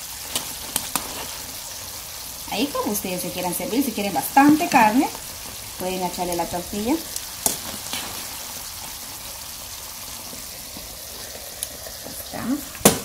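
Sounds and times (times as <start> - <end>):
beef sizzling in a frying pan: 0.0 - 13.0.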